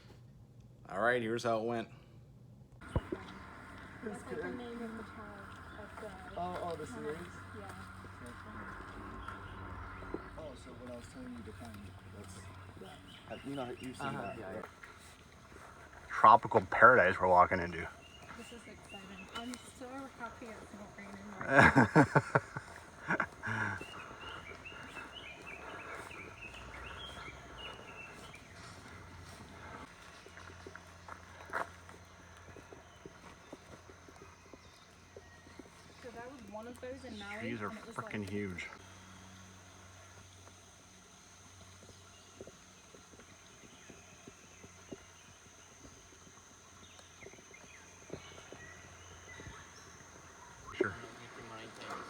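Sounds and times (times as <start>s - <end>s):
birds chirping: 2.8s - 52.0s
footsteps on a trail: 2.8s - 52.0s.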